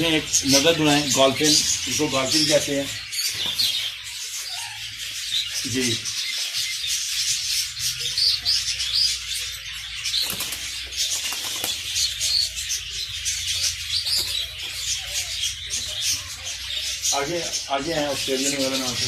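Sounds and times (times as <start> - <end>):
birds chirping and tweeting: 0.0 - 19.0.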